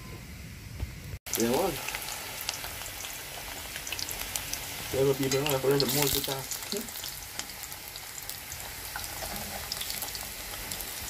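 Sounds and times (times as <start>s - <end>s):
oil popping and crackling: 1.3s - 11.0s
plantain frying in oil: 1.3s - 11.0s.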